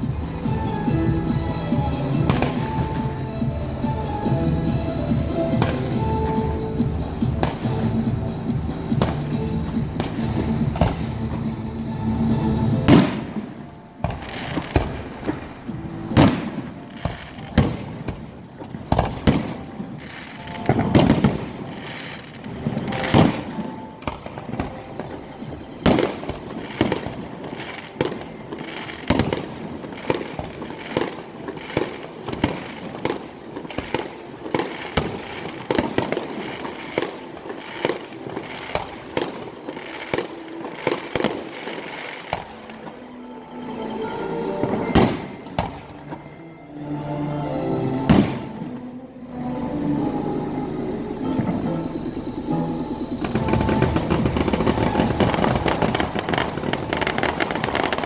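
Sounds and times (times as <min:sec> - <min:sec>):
fireworks bangs: 0:00.0 - 0:43.0, 0:44.6 - 0:46.4, 0:48.1 - 0:58.0
fireworks rumble: 0:00.0 - 0:43.0, 0:44.6 - 0:46.4, 0:48.0 - 0:58.0.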